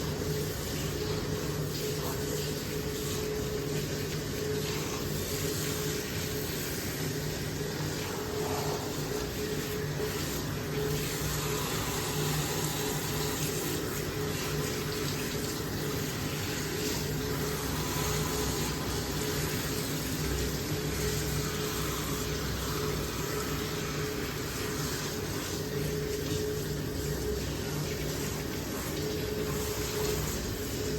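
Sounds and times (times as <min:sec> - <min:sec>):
water running from tap: 0:00.0 - 0:30.9.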